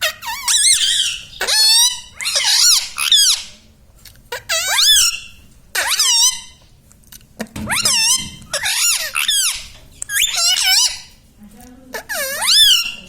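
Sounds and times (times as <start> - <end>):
parrot squawking: 0.0 - 3.7, 4.3 - 6.6, 7.6 - 11.2, 11.9 - 13.0.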